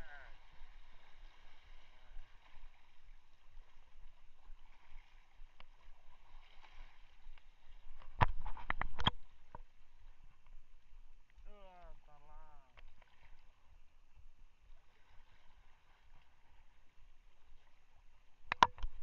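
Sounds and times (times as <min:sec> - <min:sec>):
choppy sea water: 0:00.0 - 0:19.0
wind: 0:00.0 - 0:19.0.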